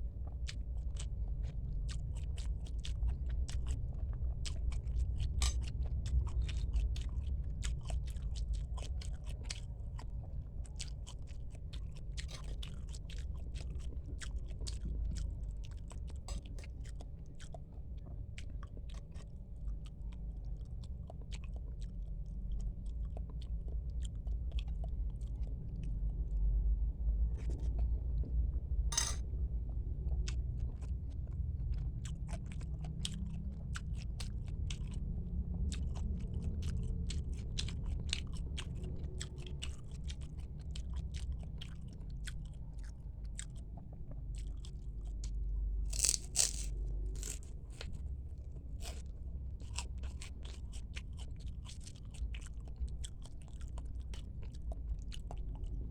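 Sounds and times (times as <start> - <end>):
close-miked chewing: 0.1 - 26.4, 29.7 - 55.9.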